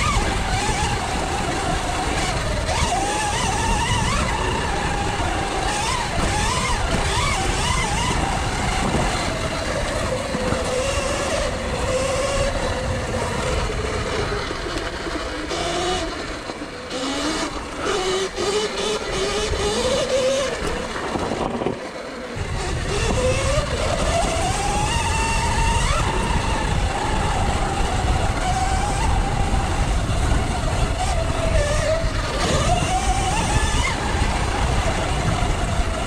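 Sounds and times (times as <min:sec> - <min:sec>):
electric motor whining: 0:00.0 - 0:36.0.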